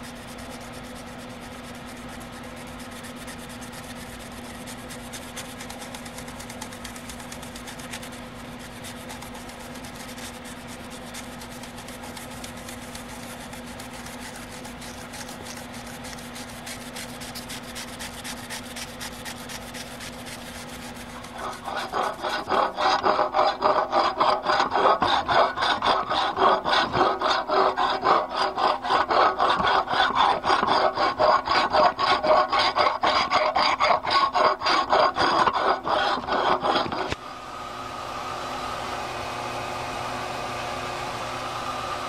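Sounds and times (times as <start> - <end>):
cloth scrubbing metal hub: 0.0 - 37.2.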